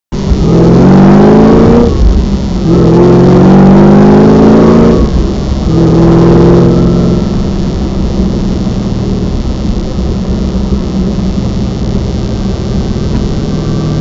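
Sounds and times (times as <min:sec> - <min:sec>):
car engine accelerating hard: 0:00.2 - 0:14.0.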